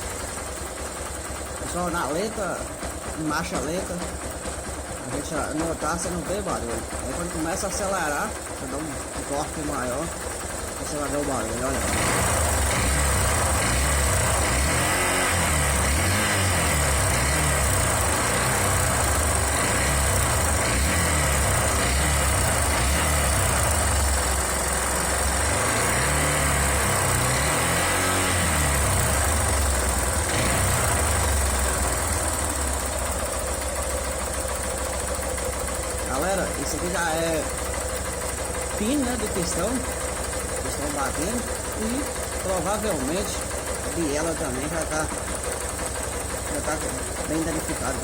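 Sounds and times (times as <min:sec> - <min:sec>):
engine knocking: 0:00.0 - 0:48.0
motorcycle engine revving: 0:00.0 - 0:48.0.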